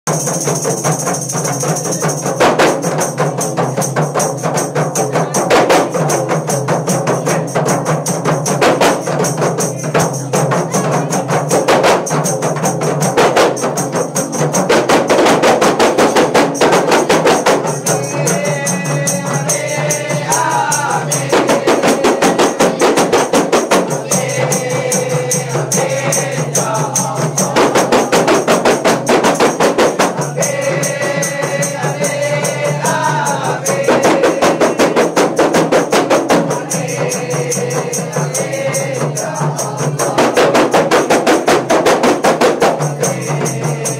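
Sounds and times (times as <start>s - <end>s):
frame drums beating fast rhythms: 0.1s - 43.9s
people singing: 0.1s - 43.9s.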